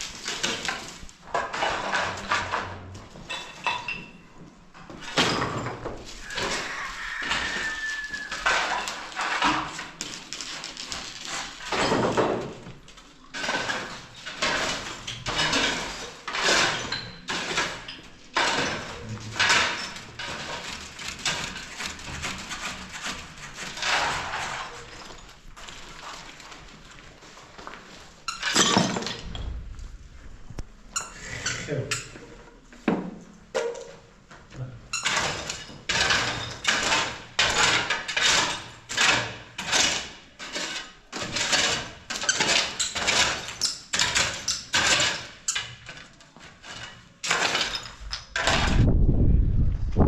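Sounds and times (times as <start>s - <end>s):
hard objects knocking and scraping: 0.0s - 34.1s, 35.0s - 49.0s.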